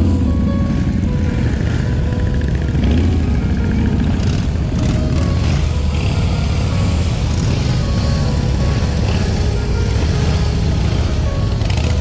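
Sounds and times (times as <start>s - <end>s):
motorcycles rumbling at low speed: 0.0s - 12.0s
music: 0.0s - 12.0s.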